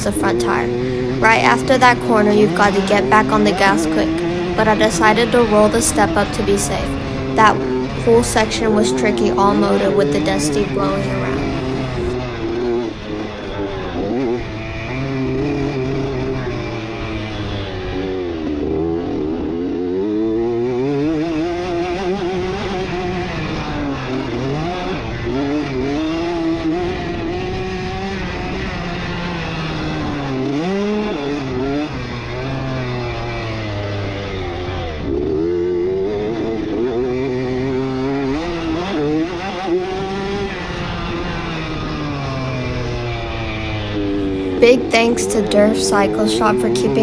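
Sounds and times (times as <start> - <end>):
two-stroke engine revving: 0.0 - 47.0.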